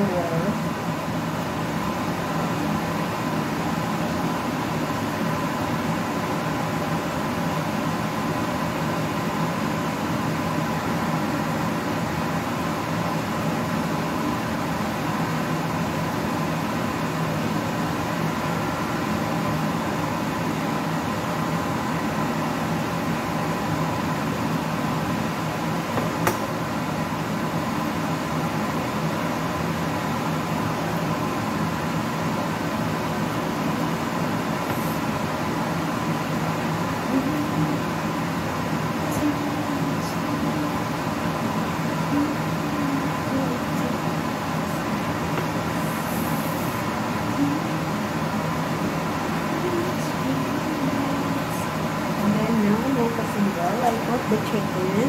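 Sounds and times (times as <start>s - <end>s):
steady machine hum: 0.0s - 55.0s.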